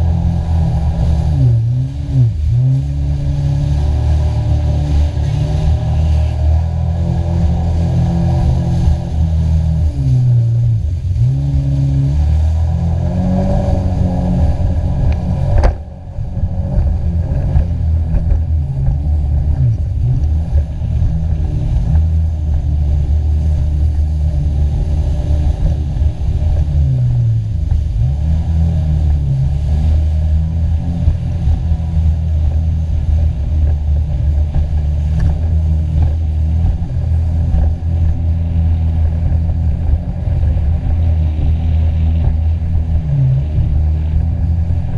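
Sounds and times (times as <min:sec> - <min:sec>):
jet ski engine running: 0:00.0 - 0:44.9.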